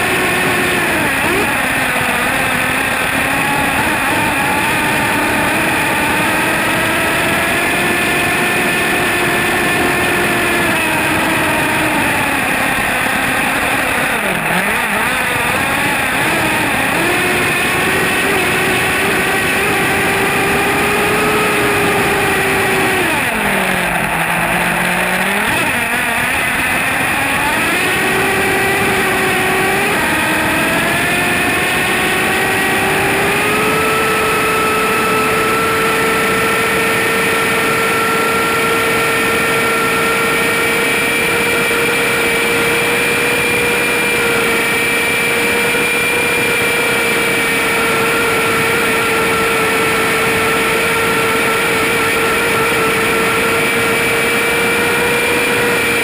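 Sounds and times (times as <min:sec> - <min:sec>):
rc truck engine running hard: 0:00.0 - 0:56.0.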